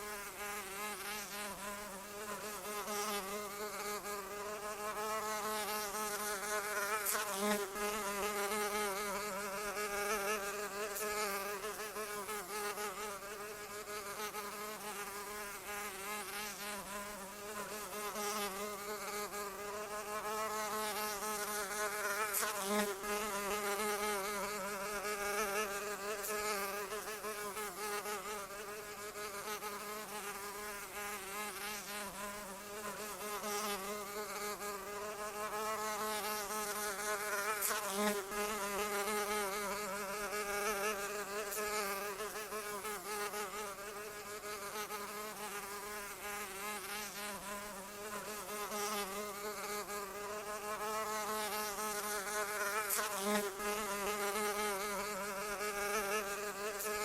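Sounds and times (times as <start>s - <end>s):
flying insect wings buzzing: 0.0s - 57.0s.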